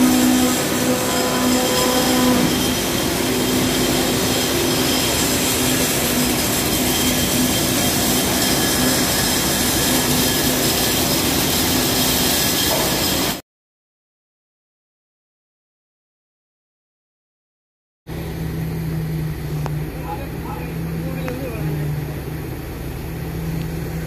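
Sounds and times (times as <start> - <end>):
concrete machinery running: 0.0 - 13.4, 18.1 - 24.0.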